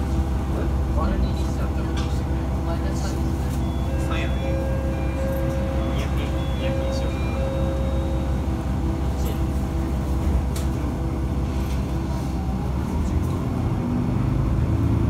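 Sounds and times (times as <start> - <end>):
railcar engine hum: 0.0 - 15.0.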